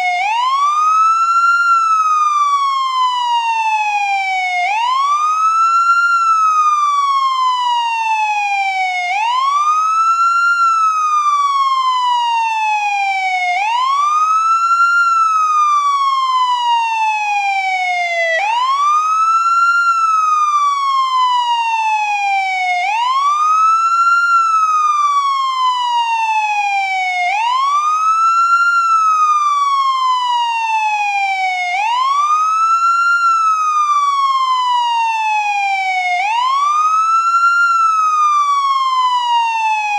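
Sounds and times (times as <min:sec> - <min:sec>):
ambulance wail siren: 0:00.0 - 0:39.9.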